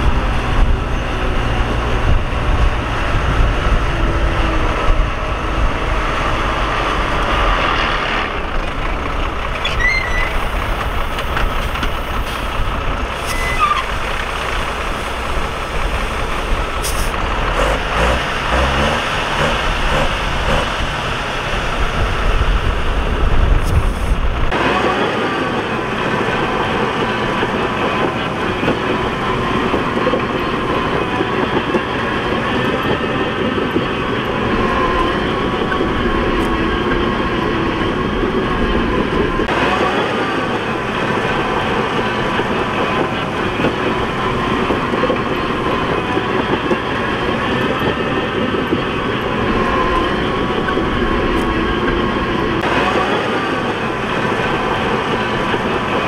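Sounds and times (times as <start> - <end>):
heavy machinery diesel engines: 0.0 - 56.0.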